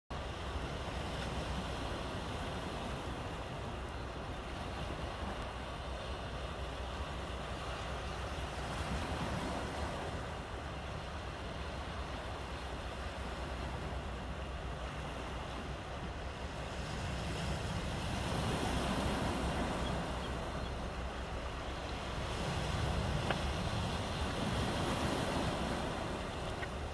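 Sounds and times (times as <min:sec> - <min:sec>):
waves washing among boulders: 0:00.1 - 0:26.9.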